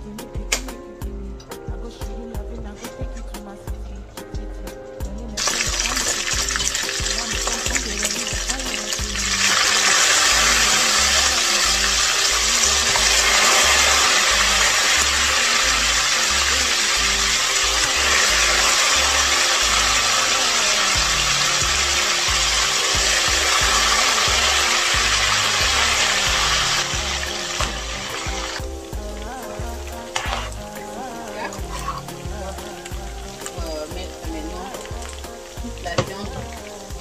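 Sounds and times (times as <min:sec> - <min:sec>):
music with bass beat: 0:00.0 - 0:37.0
food sizzling in oil: 0:04.2 - 0:37.0.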